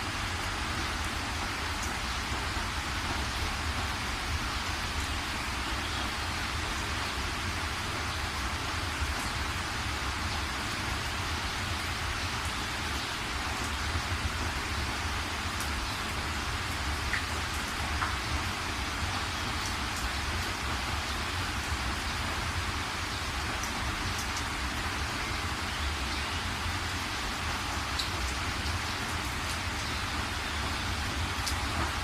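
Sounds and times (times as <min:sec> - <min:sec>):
rain pattering on surfaces: 0:00.0 - 0:32.0.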